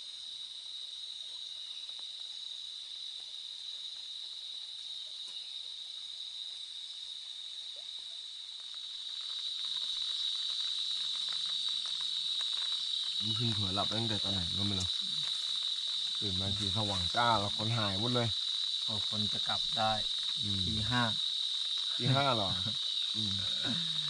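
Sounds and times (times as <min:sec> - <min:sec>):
crickets chirping: 0:00.0 - 0:24.0
faint hiss: 0:00.0 - 0:24.0.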